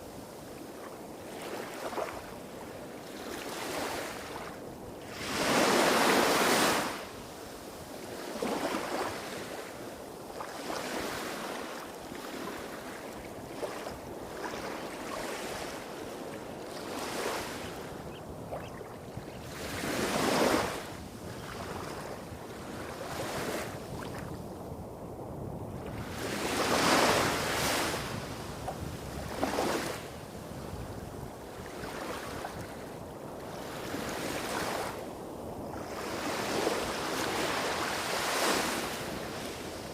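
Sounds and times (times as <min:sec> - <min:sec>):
small waves washing on beach: 0:00.0 - 0:39.9.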